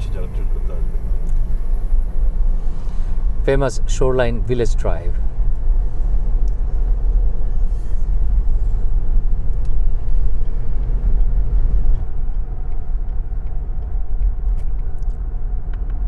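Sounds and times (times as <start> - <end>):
car driving rumble inside cabin: 0.0 - 16.0.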